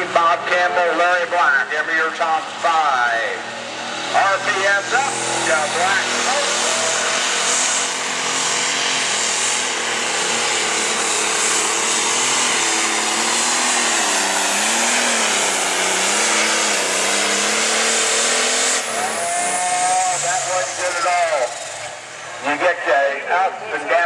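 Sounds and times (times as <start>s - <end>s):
diesel tractor engine under load: 0.0s - 24.0s.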